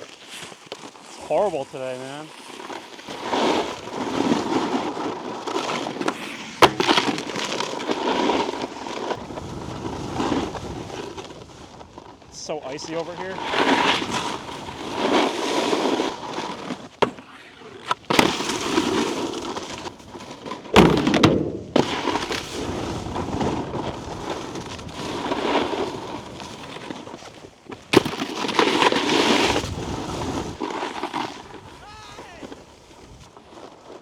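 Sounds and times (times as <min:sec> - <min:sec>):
snowboard edges scraping icy snow: 0:00.0 - 0:34.0
snowboard knocks: 0:02.6 - 0:12.1, 0:13.5 - 0:32.7.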